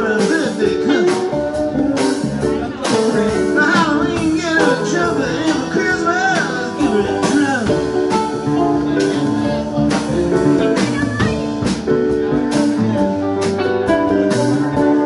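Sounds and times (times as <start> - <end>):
bass guitar: 0.0 - 15.0
drum kit beat: 0.0 - 15.0
electric guitars: 0.0 - 15.0.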